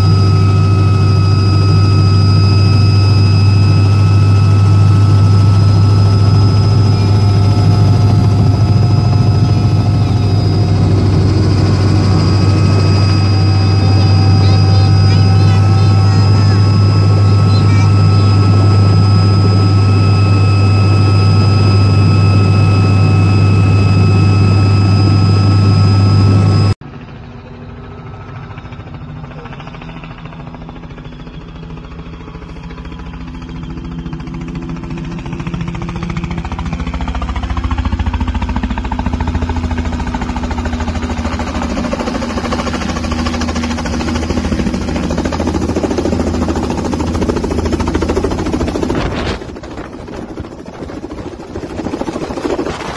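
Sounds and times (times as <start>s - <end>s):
helicopter approaching from outside: 0.0s - 52.9s
helicopter cabin engine drone: 0.0s - 52.9s.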